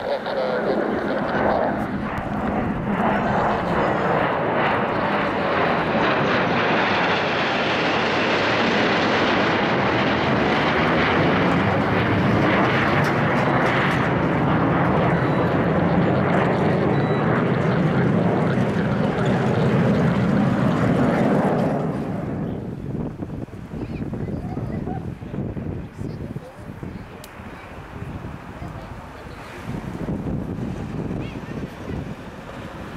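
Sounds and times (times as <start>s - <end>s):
jet aircraft passing overhead: 0.0s - 32.9s.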